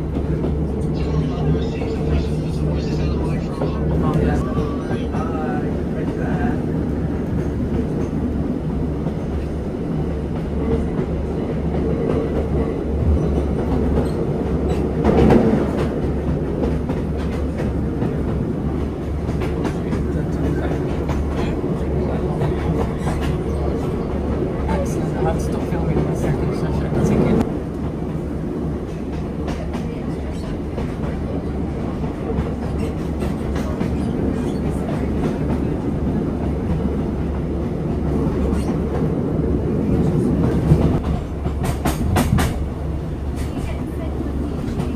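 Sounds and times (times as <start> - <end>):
train low rumble: 0.0 - 44.9.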